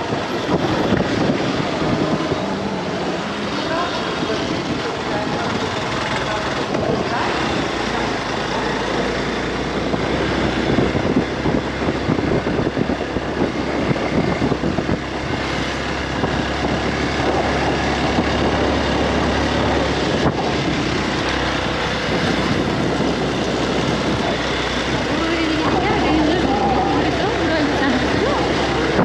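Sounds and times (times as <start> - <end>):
road and wind noise: 0.0 - 29.0
vehicle engine hum: 0.0 - 29.0.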